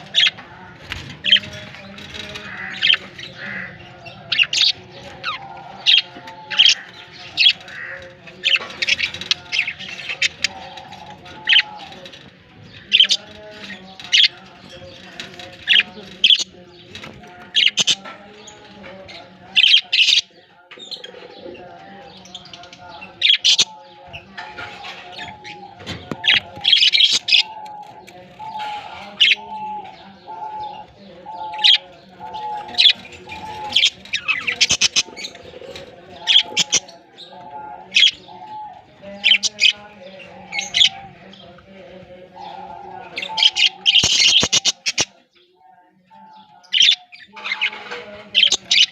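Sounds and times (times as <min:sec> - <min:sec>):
budgies chirping: 0:00.0 - 0:48.9.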